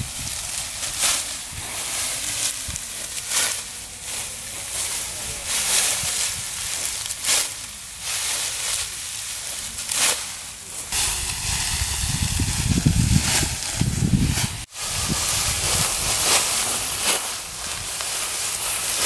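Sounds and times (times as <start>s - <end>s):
dry straw rustling and crackling: 0.0s - 19.0s.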